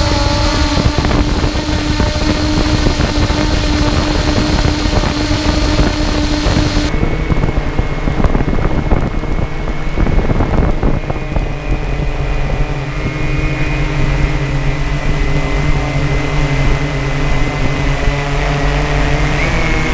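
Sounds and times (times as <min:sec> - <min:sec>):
drone motors humming and whining: 0:00.0 - 0:19.9
wind noise on microphone: 0:00.0 - 0:19.9.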